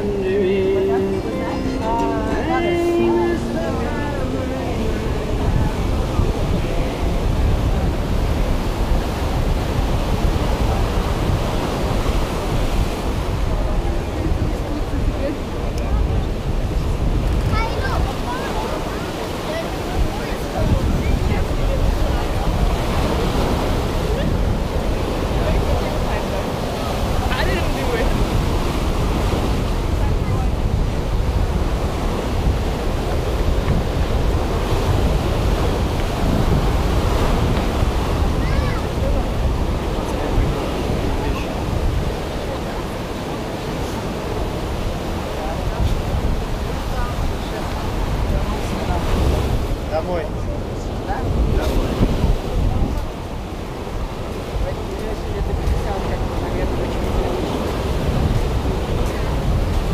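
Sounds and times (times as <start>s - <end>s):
ocean surf breaking: 0.0s - 59.9s
wind rumbling on microphone: 0.0s - 59.9s.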